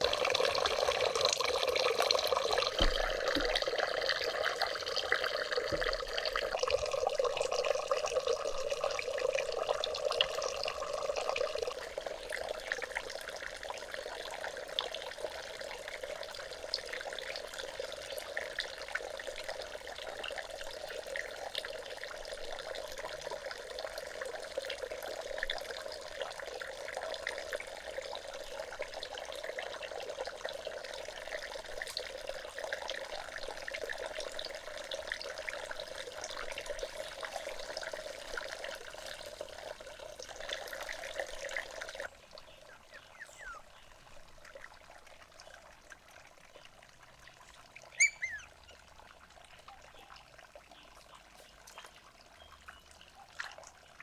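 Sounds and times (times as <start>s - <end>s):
water trickling into pond: 0.0s - 54.0s.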